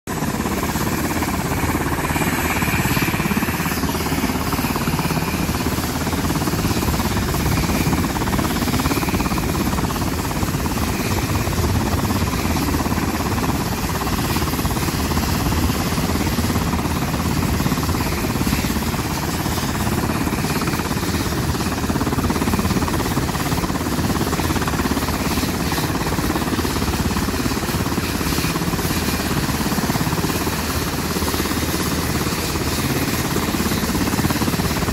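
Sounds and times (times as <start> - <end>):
helicopter engines and rotors: 0.1 - 34.9.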